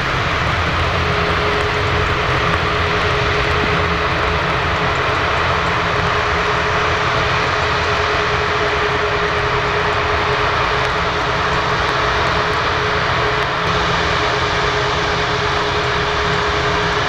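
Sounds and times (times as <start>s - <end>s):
jet engines running: 0.0s - 17.0s
steady engine whine: 0.0s - 17.0s.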